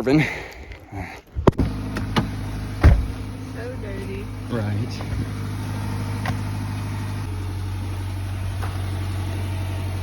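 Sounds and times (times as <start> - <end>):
car engine idling: 1.6 - 10.0.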